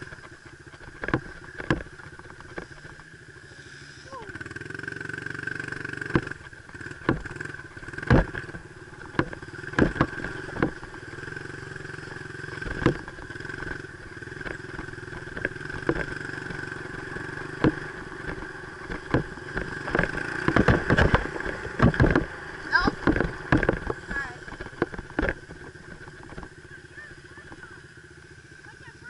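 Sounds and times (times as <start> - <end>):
bike knocking and clattering: 0.0 - 3.4, 4.5 - 29.0
dirt bike engine running: 0.0 - 29.0.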